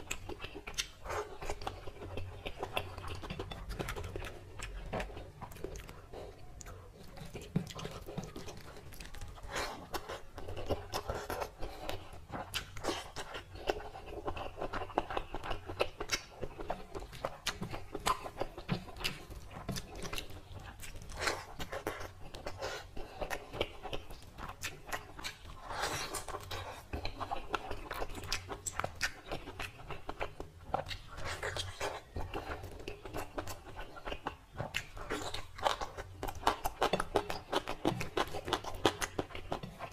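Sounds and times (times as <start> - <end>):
man chewing with wet smacking: 0.0 - 39.9.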